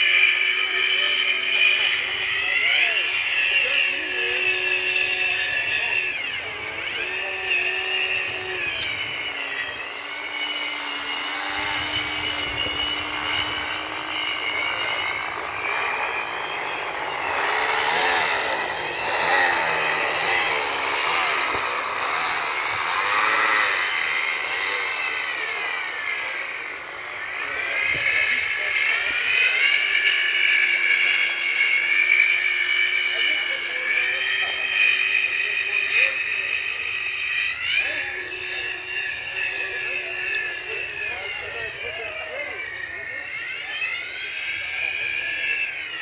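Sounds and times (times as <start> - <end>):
model plane motor whining: 0.0 - 46.0.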